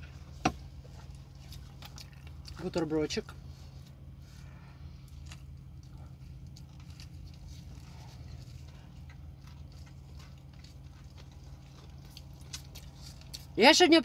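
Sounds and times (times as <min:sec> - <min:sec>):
person chewing: 0:00.0 - 0:02.7, 0:03.8 - 0:13.6
steady low hum: 0:00.0 - 0:14.0.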